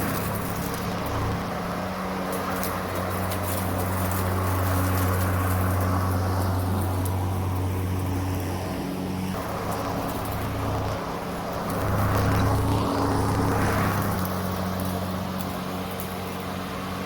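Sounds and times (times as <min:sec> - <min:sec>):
electric lawn mower humming: 0:00.0 - 0:17.0
grass cutting: 0:00.0 - 0:17.0.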